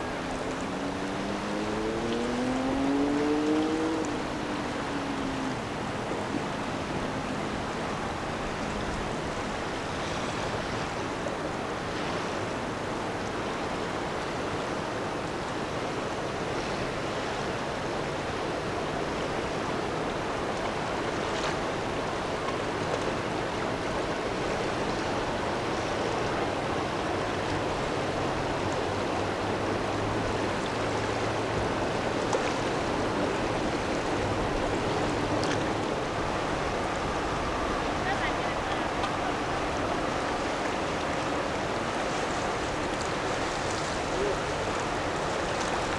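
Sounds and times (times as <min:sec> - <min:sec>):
faint low engine hum: 0:00.0 - 0:45.9
river water rushing: 0:00.0 - 0:45.9.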